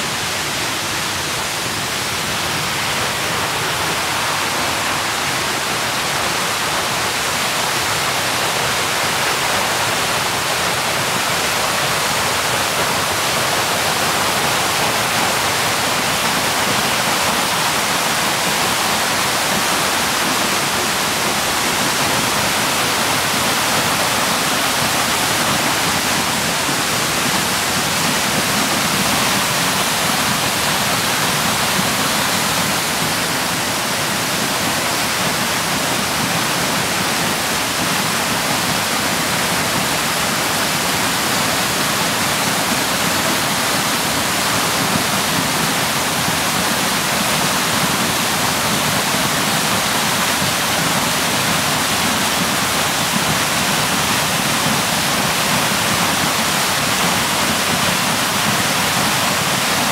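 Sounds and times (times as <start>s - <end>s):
waterfall splashing onto rocks: 0.0s - 59.9s.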